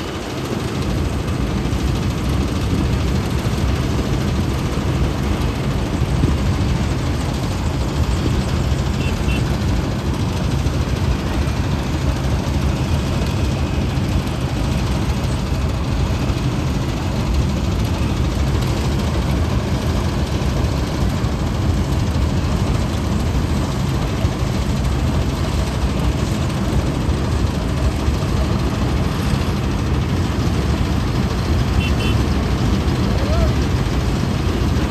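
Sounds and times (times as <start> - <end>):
diesel engine droning: 0.0 - 34.9.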